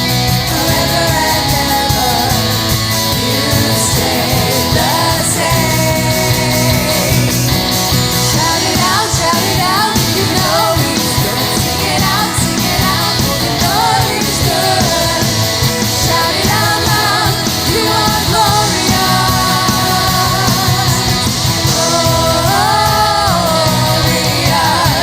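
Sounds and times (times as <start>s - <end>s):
band playing rock praise song: 0.0s - 25.0s.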